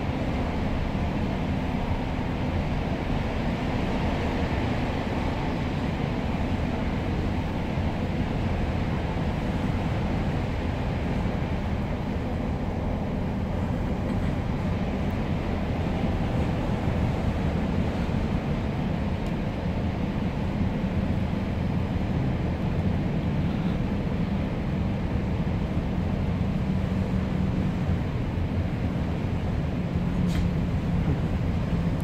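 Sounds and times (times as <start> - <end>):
train cabin low rumble: 0.0 - 32.0.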